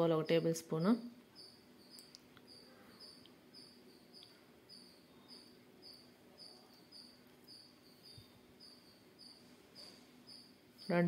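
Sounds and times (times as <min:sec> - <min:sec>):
cricket chirping: 0:01.3 - 0:11.0.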